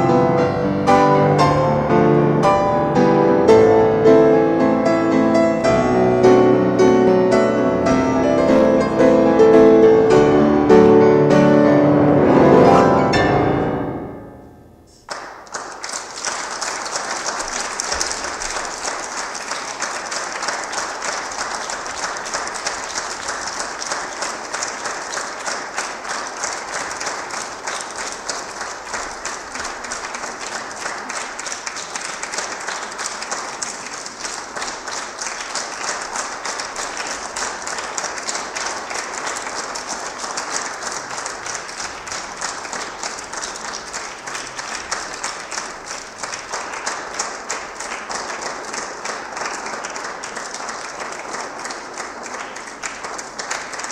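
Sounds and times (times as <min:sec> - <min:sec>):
audience applauding: 0:03.3 - 0:13.4, 0:14.9 - 0:53.9.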